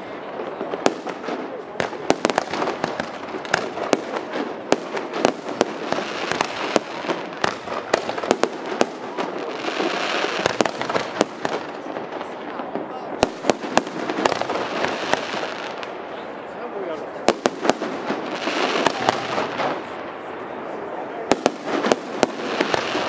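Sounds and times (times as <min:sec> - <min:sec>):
fireworks bursting with bangs: 0:00.0 - 0:23.0.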